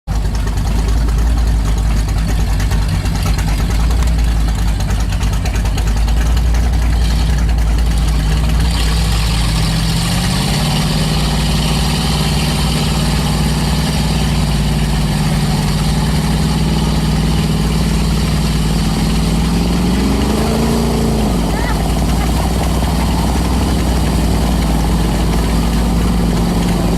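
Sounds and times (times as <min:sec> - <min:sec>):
truck engine revving: 0:00.2 - 0:26.9.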